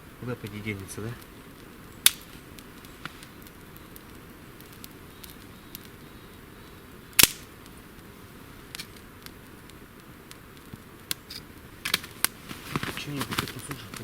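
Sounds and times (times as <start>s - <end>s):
twigs snapping on campfire: 0.2s - 14.0s.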